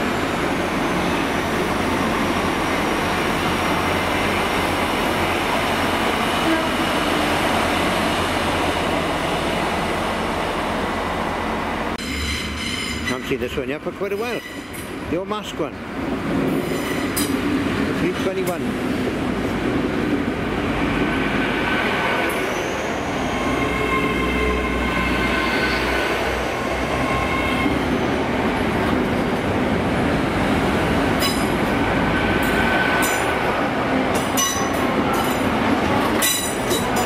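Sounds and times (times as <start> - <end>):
train rolling past: 0.0 - 37.0.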